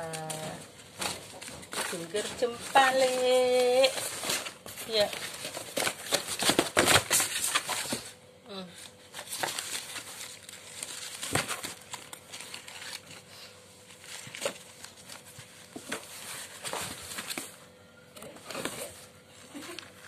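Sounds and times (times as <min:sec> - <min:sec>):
paper crinkling against cardboard: 0:00.0 - 0:08.1, 0:08.8 - 0:17.6.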